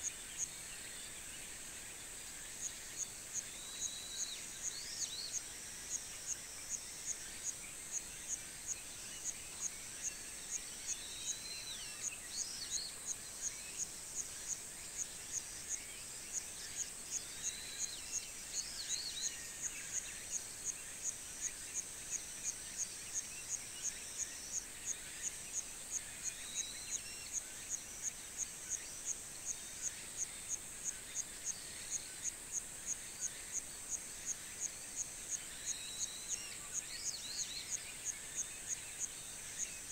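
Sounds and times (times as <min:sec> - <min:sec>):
high insect drone: 0:00.0 - 0:39.9
insect chirping: 0:00.0 - 0:39.9.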